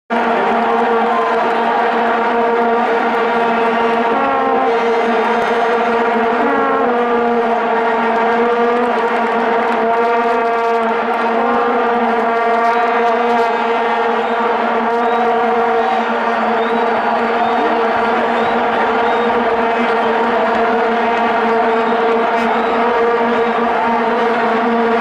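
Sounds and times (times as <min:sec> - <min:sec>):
vuvuzelas droning: 0:00.1 - 0:25.0
single horn sliding off pitch: 0:00.2 - 0:25.0.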